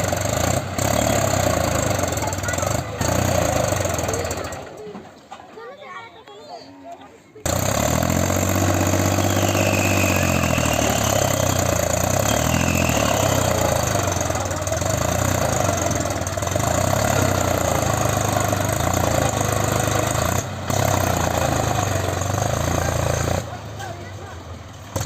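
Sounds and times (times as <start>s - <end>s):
tractor diesel engine running: 0.0s - 5.3s, 7.4s - 25.0s.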